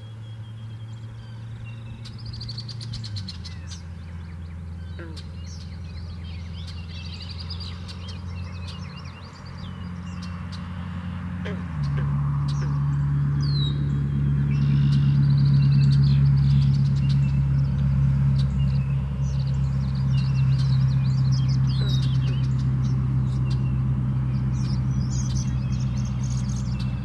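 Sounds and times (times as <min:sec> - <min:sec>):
low engine hum: 0:00.0 - 0:27.0
small birds chirping: 0:00.0 - 0:27.0.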